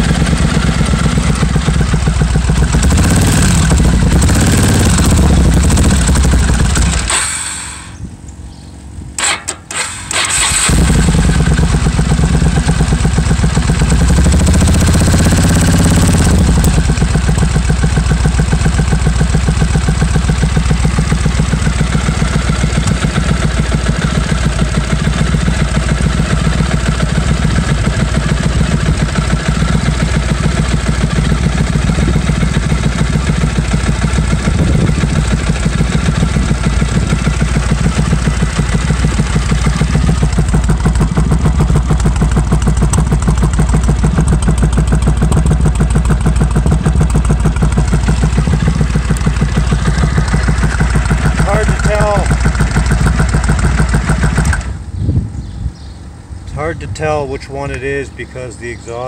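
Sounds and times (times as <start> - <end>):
motorcycle engine starting and idling: 0.0 - 59.0.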